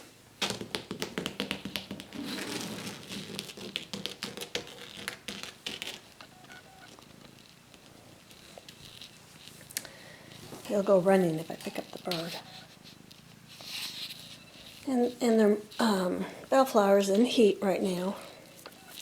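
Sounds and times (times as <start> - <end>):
kitten purring: 1.0 - 19.0.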